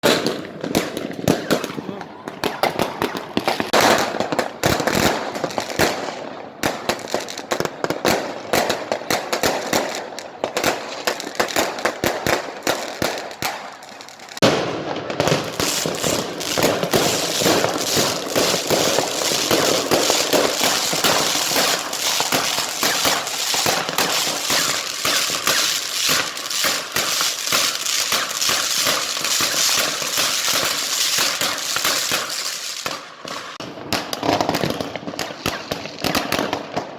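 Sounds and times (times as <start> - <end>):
fireworks and firecrackers banging: 0.0 - 36.9.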